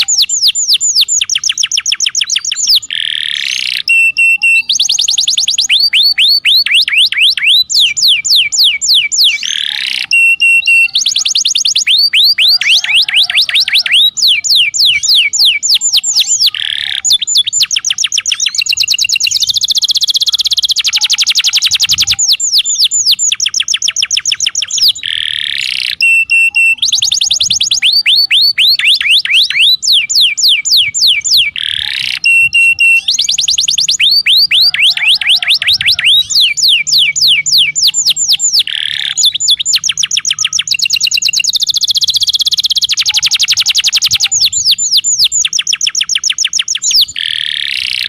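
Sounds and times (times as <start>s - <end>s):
canary singing: 0.0s - 48.0s.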